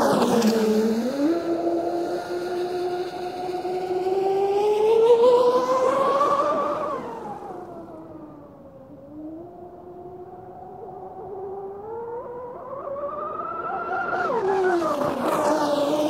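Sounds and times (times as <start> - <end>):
model speedboat motor whining: 0.0 - 16.0.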